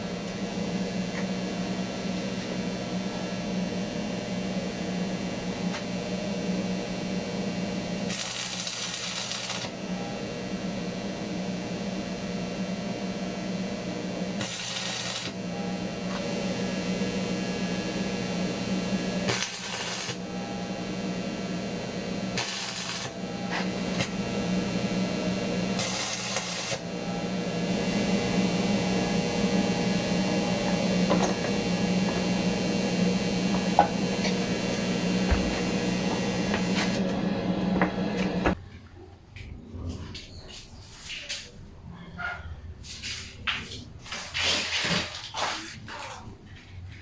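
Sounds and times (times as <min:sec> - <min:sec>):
machine hum: 0:00.0 - 0:38.6.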